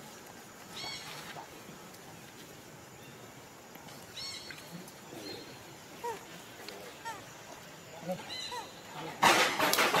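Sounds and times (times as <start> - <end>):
steady outdoor hiss: 0.0 - 10.0.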